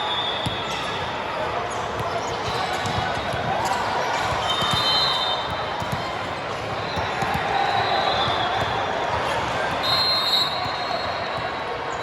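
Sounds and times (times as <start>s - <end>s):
crowd chatter: 0.0s - 12.0s
volleyball strikes: 1.9s - 11.8s.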